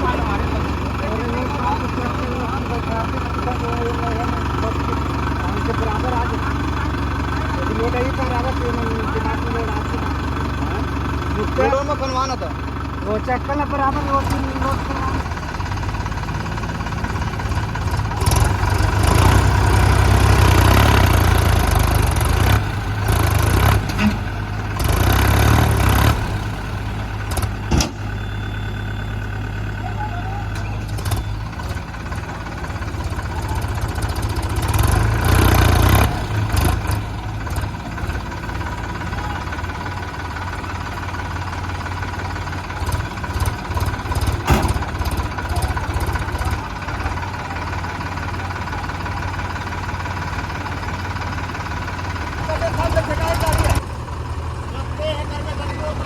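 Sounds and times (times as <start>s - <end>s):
diesel engine revving: 0.0s - 56.0s.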